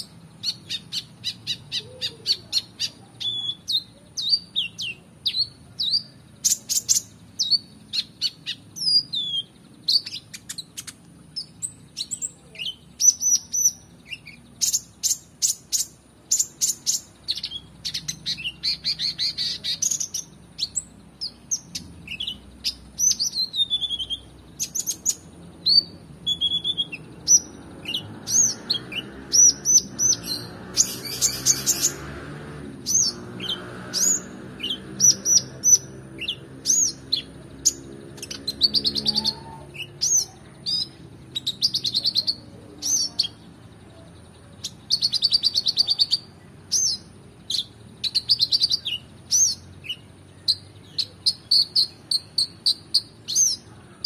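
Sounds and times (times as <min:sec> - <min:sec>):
sunbird singing high chirps and trills: 0:00.0 - 0:54.0.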